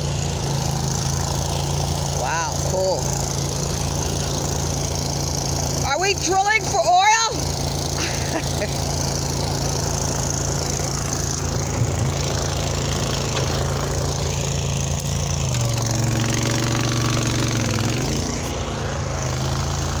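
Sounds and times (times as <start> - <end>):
diesel earthmover engine running: 0.0 - 20.0.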